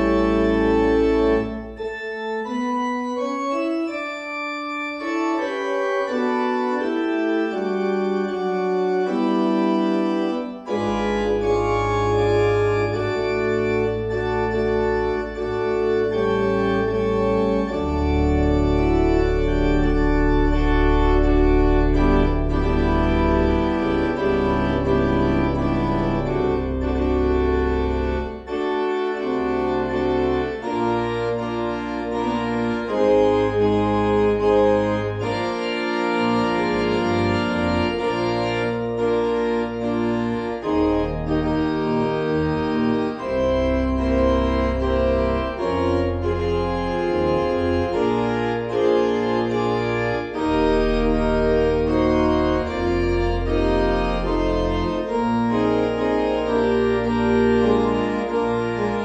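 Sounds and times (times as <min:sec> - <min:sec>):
organ playing slow chords: 0:00.0 - 0:59.0.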